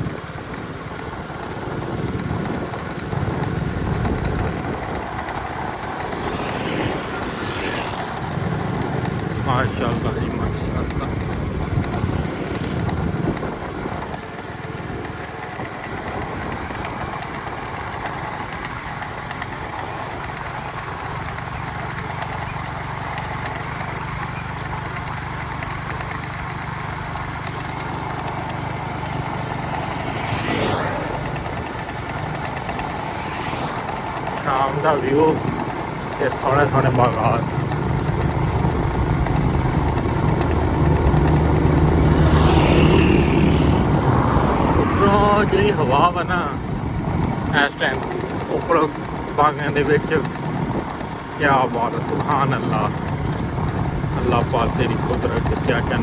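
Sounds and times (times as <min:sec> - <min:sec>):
wind noise on microphone: 0:00.0 - 0:20.3, 0:27.2 - 0:56.0
vehicle road rumble: 0:00.0 - 0:56.0.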